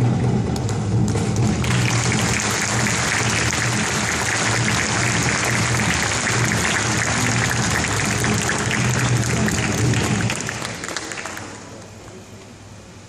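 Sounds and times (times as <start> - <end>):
audience applauding: 1.2 - 12.2.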